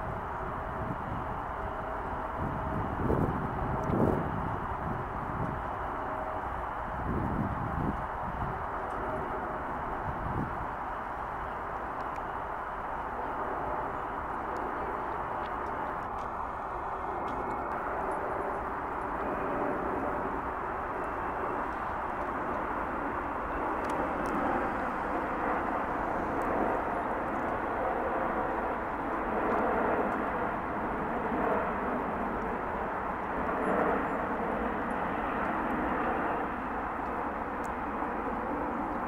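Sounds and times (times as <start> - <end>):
jet airliner roar overhead: 0.0 - 39.0.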